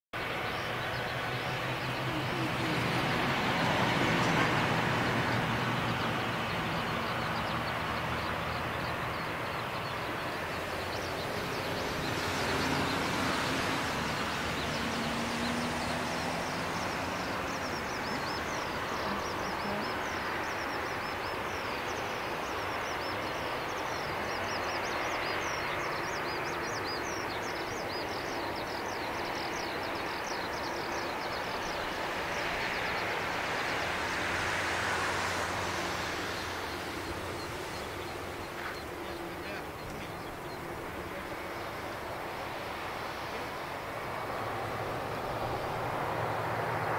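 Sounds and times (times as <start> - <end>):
jet engines rushing and whining: 0.2 - 46.9.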